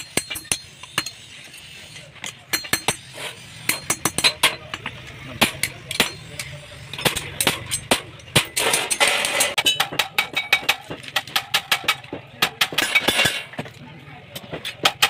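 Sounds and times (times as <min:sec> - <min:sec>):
hammer striking steel: 0:00.0 - 0:01.6, 0:02.2 - 0:13.6.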